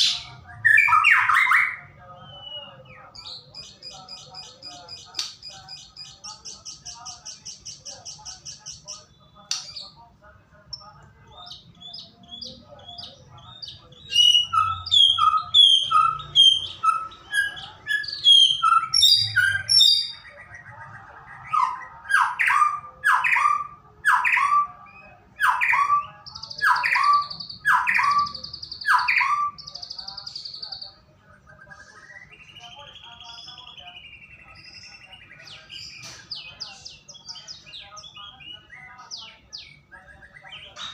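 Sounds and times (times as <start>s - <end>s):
bird singing loud varied song: 0.0s - 40.9s.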